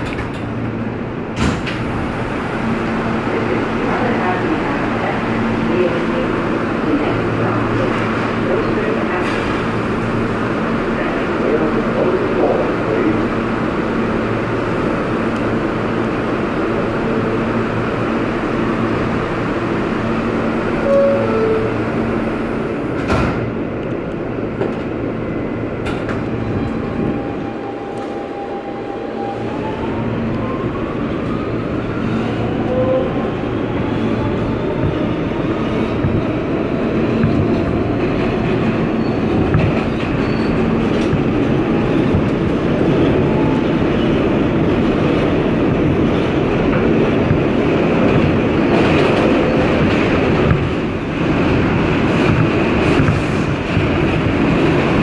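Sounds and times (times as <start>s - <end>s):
train wheels on rails: 0.0s - 55.0s
subway train whine rising in pitch: 0.6s - 55.0s.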